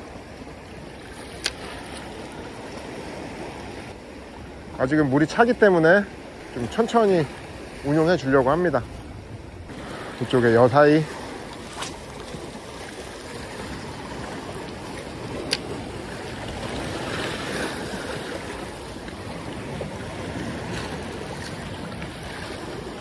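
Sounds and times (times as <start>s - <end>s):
sea waves washing against rocks: 0.0s - 23.0s.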